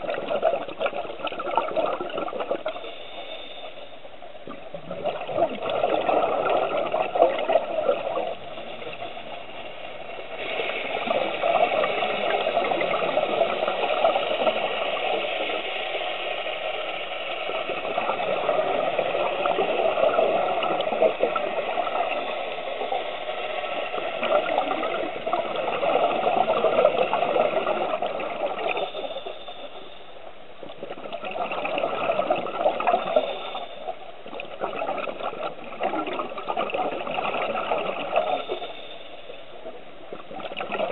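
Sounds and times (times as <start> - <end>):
underwater regulator bubbling: 0.0 - 3.3, 4.4 - 9.4, 10.4 - 15.8, 17.4 - 23.1, 23.9 - 29.6, 30.6 - 39.0, 40.1 - 40.9.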